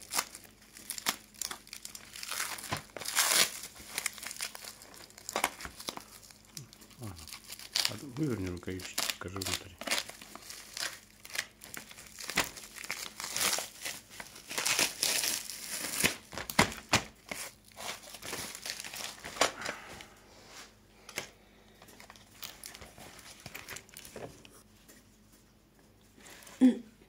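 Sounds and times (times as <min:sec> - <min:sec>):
plastic wrap crinkling and tearing: 0:00.0 - 0:20.0, 0:21.1 - 0:24.5.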